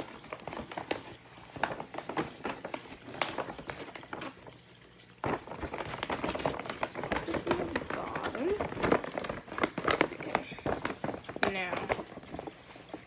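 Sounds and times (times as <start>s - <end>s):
stiff paper bag crinkling: 0.0s - 13.0s.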